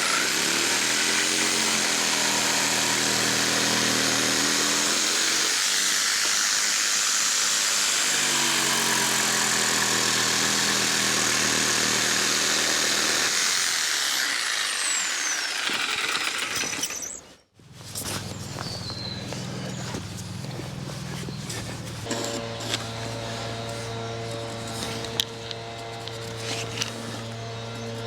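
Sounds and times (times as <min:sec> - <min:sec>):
power tool cutting wood: 0:00.0 - 0:17.3, 0:22.0 - 0:28.0.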